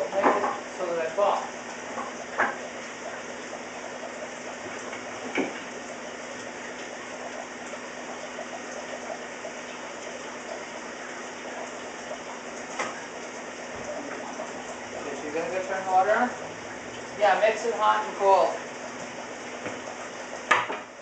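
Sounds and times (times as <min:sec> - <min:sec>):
water rushing from aquarium: 0:00.0 - 0:21.0.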